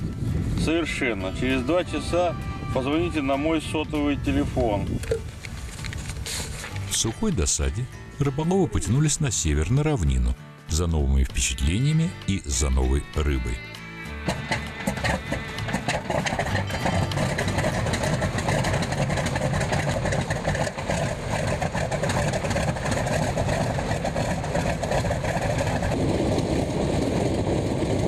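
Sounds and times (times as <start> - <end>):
propeller plane engine running: 0.0 - 11.2, 13.6 - 28.0.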